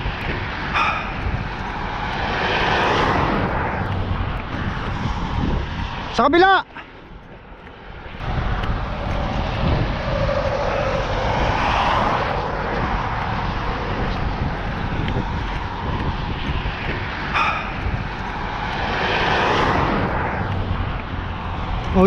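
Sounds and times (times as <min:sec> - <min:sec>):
highway traffic rushing: 0:00.0 - 0:22.0
vehicle passing: 0:00.0 - 0:22.0.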